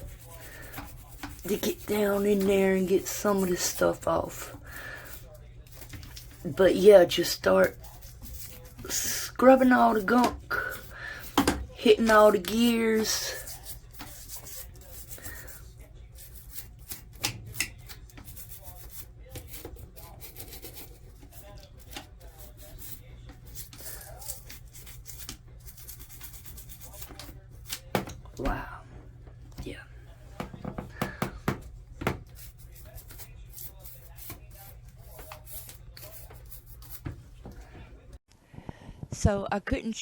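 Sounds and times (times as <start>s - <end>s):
brush scrubbing metal gears: 0.0s - 27.7s, 32.2s - 38.0s.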